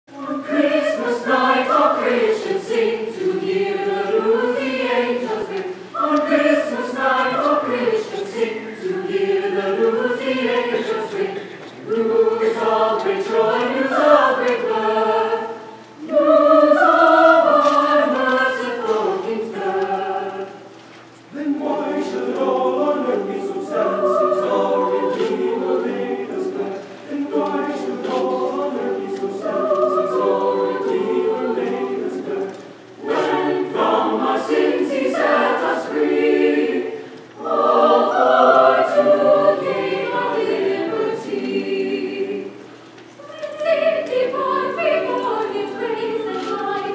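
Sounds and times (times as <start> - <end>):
mixed choir singing unaccompanied: 0.1 - 46.9.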